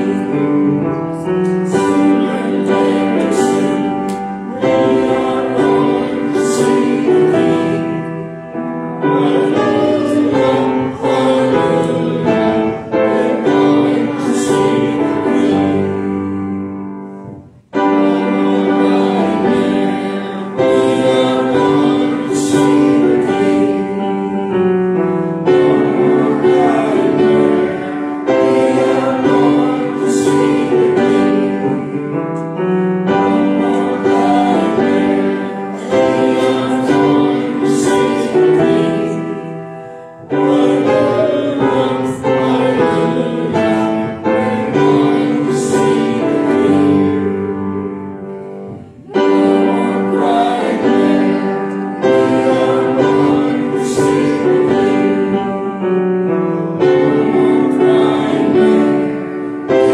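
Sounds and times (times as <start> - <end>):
congregation singing a hymn: 0.0 - 59.9
grand piano accompaniment: 0.0 - 59.9.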